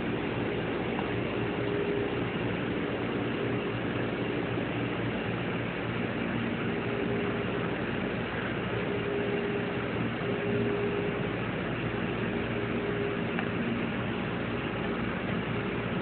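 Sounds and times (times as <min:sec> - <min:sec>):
faint tones: 0:00.0 - 0:16.0
low machine hum: 0:00.0 - 0:16.0.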